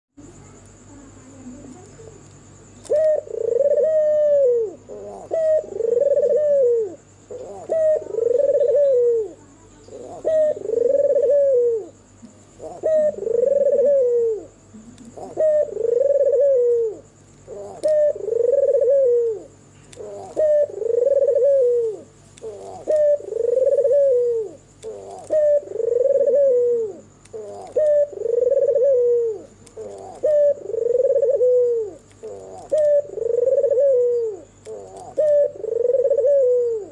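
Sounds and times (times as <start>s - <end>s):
dove cooing: 2.8s - 36.9s.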